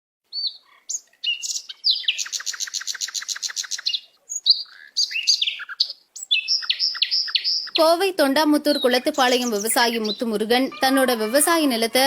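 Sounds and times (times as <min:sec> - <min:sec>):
small birds chirping: 0:00.2 - 0:11.7
fast bird trill: 0:00.3 - 0:08.0, 0:08.6 - 0:11.8.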